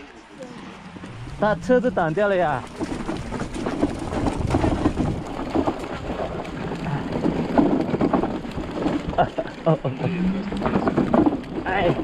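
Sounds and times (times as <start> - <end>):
wind buffeting microphone: 0.7 - 12.0
scooter rattling over rough track: 1.1 - 12.0.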